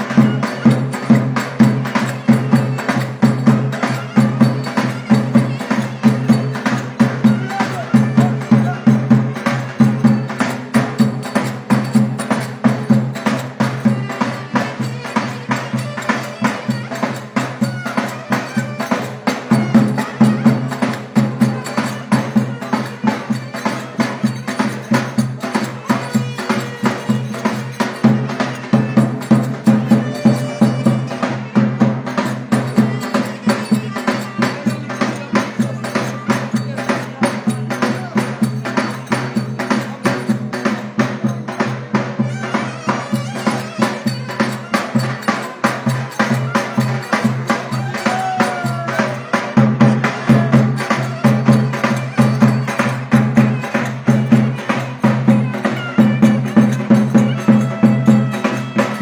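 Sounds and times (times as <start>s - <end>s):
clicking hand percussion: 0.0s - 59.0s
drum beating fast rhythm: 0.0s - 59.0s.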